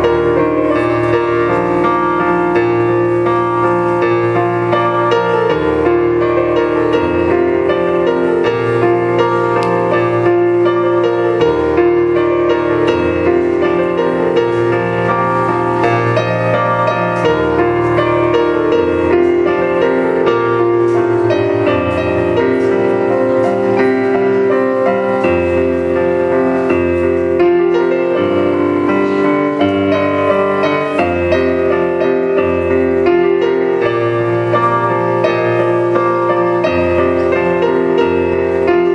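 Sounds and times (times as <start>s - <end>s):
solo piano: 0.0s - 38.9s.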